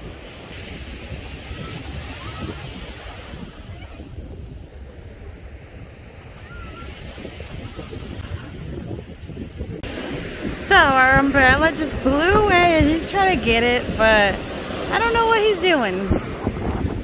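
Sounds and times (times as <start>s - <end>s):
ocean surf breaking on sand: 0.0s - 17.0s
wind rumbling on microphone: 0.0s - 17.0s.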